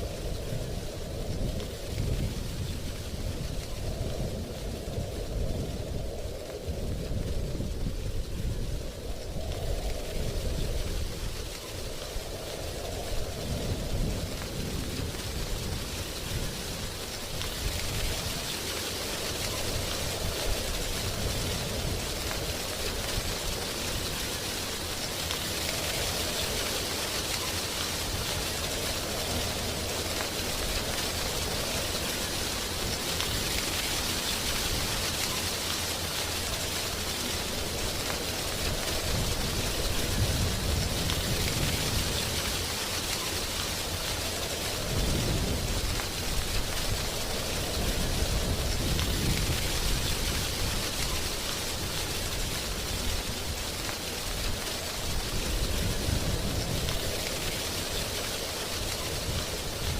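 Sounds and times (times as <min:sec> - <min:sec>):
wind rustling tree leaves: 0:00.0 - 0:59.9.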